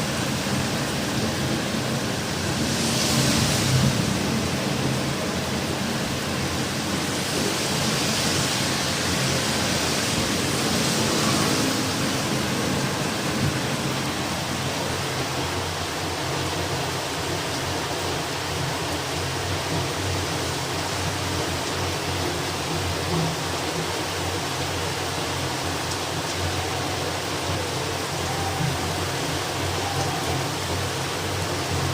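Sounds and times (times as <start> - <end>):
heavy rain: 0.0 - 31.9
strong gusting wind: 0.0 - 31.9.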